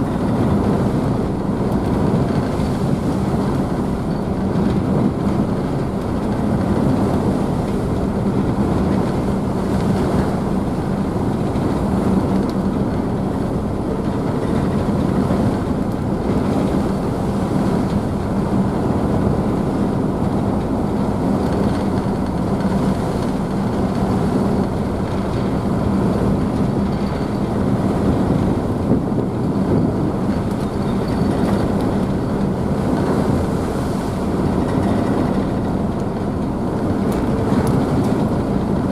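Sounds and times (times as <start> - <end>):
ferry engines humming: 0.0 - 38.9
rushing wake and spray: 0.0 - 38.9.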